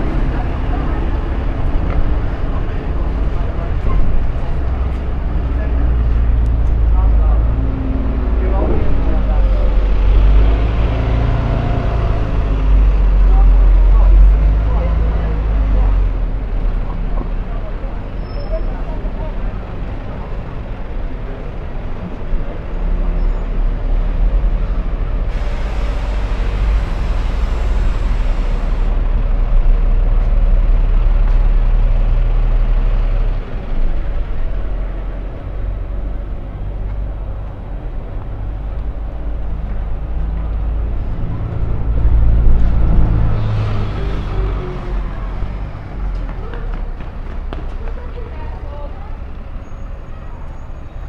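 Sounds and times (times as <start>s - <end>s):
heavy vehicle engine rumble: 0.0s - 51.0s.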